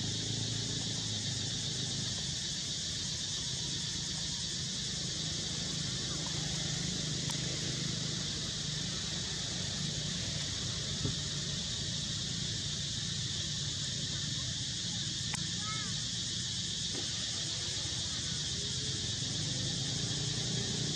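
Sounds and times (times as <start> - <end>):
high insect chorus hiss: 0.0 - 20.9.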